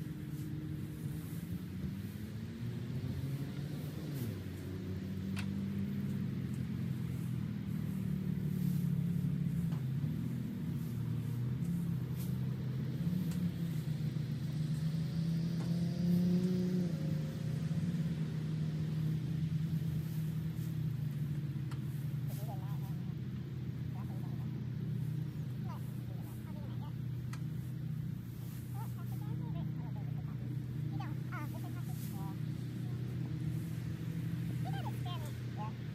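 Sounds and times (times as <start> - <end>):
dry hay rustling and crackling: 0.0 - 35.9
vehicle engine running: 0.0 - 35.9.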